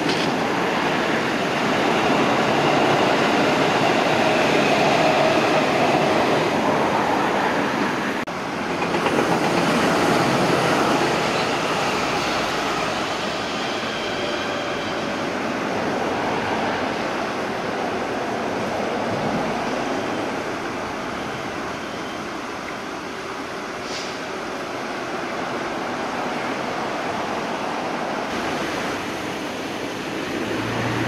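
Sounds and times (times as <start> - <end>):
train rolling past: 0.0 - 31.0.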